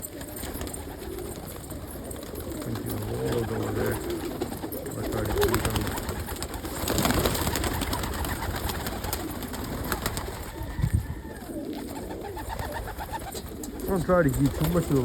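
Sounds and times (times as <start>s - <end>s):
birds moving with clicks and knocks: 0.0s - 15.0s
pigeons cooing: 0.0s - 15.0s.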